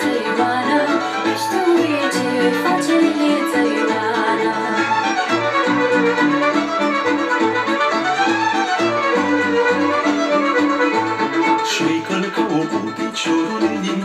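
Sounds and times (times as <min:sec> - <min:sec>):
fiddle melody: 0:00.0 - 0:14.0.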